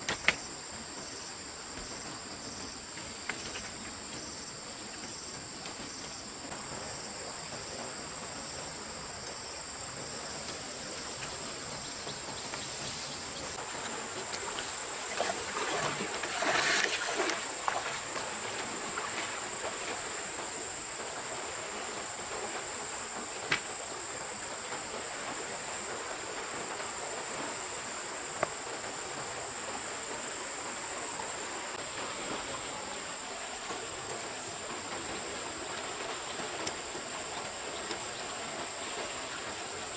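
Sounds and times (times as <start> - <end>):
insects trilling: 0.0 - 39.9
stream water rushing: 3.0 - 39.9.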